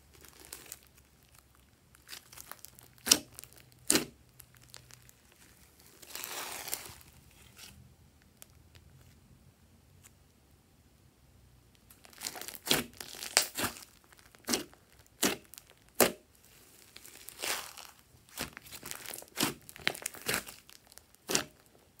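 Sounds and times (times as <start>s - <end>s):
slime crackling and popping: 0.1s - 7.7s, 11.8s - 22.0s.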